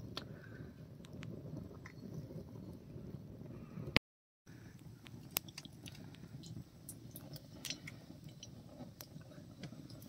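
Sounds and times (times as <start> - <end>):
fire crackling and ticking: 0.0 - 4.0, 4.7 - 10.0.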